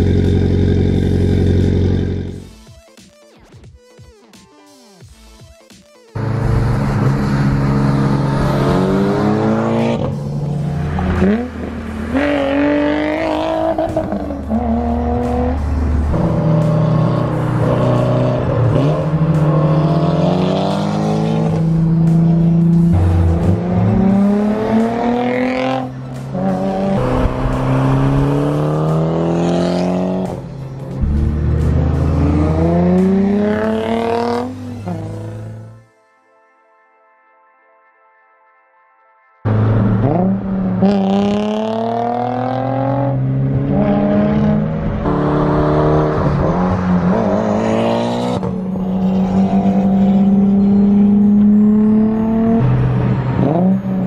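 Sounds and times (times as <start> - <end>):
car engines accelerating hard: 0.0 - 2.5, 6.2 - 35.8, 39.5 - 54.0.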